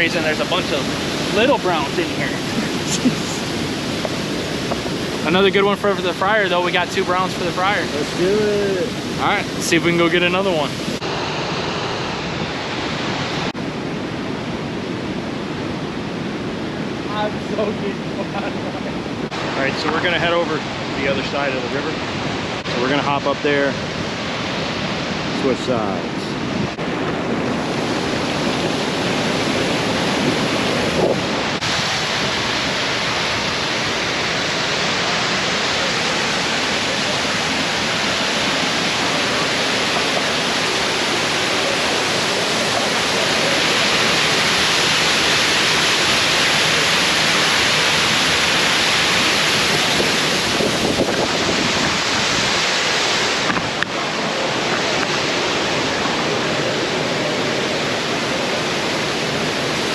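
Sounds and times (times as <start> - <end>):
flowing river water: 0.0 - 59.9.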